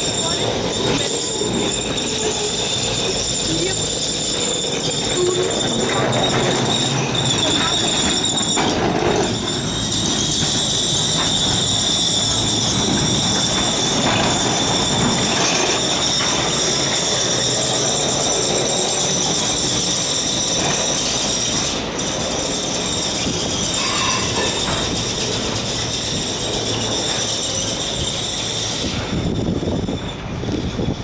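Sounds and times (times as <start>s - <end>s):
funicular car rumbling on rails: 0.0s - 31.0s
high-pitched whine: 0.0s - 31.0s.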